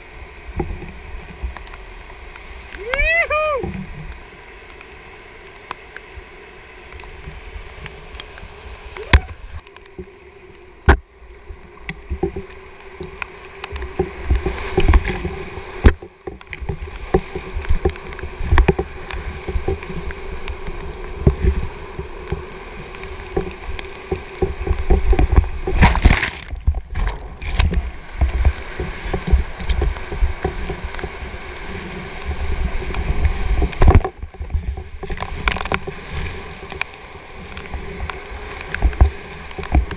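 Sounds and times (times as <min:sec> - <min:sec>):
water slapping and splashing: 0:00.0 - 0:39.9
whitewater rushing over rocks: 0:00.0 - 0:39.9.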